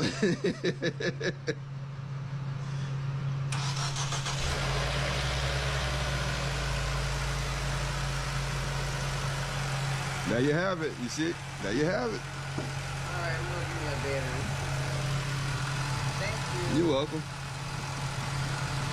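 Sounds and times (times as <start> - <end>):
steady low hum: 0.0 - 3.6, 5.6 - 18.9
car engine cranking and idling: 1.7 - 18.9.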